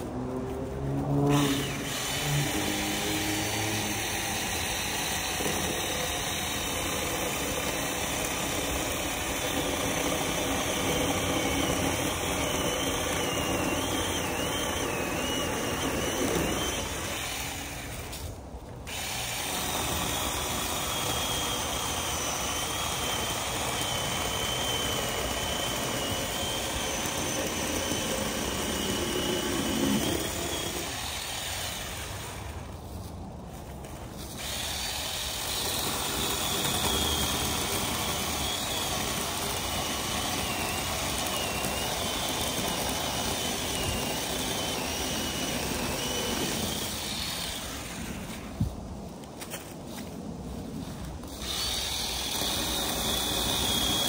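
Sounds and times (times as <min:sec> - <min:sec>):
chainsaw cutting logs: 0:00.0 - 0:32.9, 0:33.8 - 0:48.8, 0:51.0 - 0:54.0.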